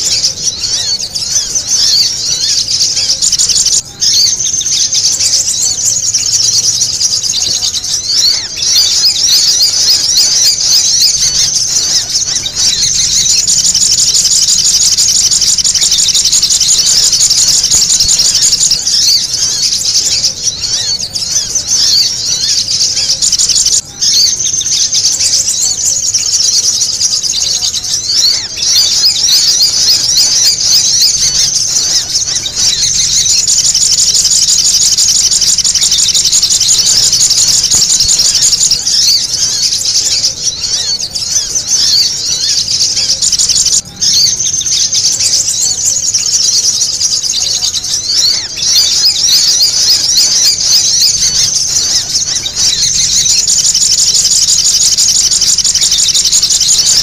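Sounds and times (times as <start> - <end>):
bird calls: 0.0 - 57.0
birds chattering and trilling: 0.0 - 57.0.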